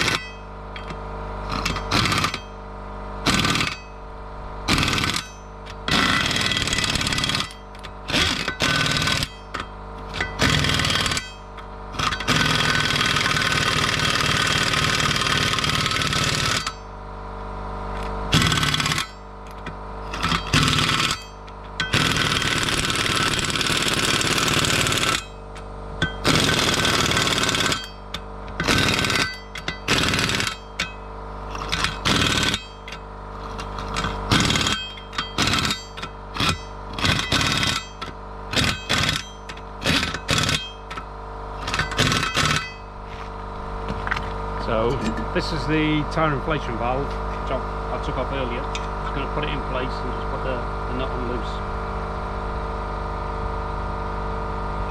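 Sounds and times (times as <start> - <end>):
pneumatic impact wrench hammering: 0.0 - 17.0, 17.9 - 45.5.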